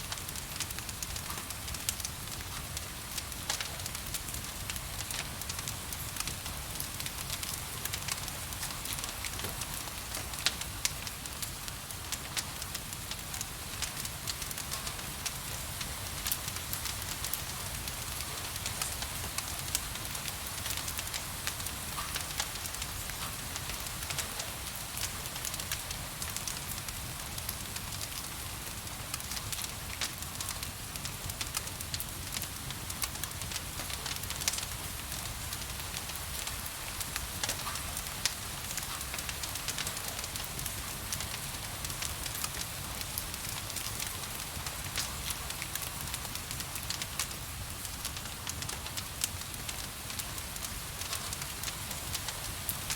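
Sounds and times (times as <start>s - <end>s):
gentle rain hiss: 0.0s - 52.9s
wood fire crackling: 0.0s - 52.9s.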